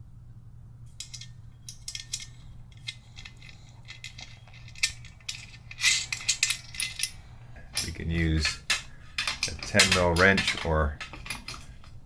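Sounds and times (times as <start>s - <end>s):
metal parts clattering: 1.0s - 12.0s
metallic clicks and scrapes of nut: 1.0s - 12.0s.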